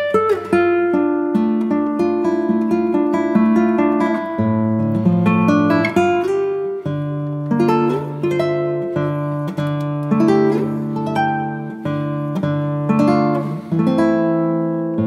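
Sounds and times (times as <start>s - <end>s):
acoustic guitar tune: 0.0s - 15.0s.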